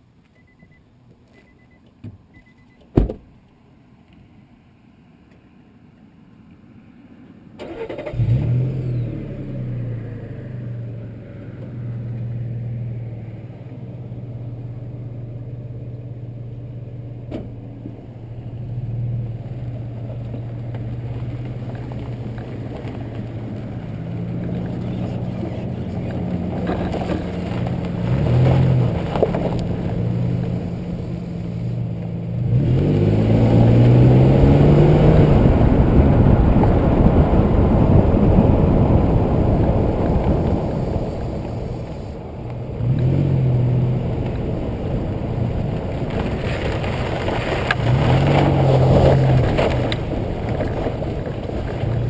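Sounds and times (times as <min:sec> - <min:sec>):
car engine starting and idling: 0:00.2 - 0:52.0.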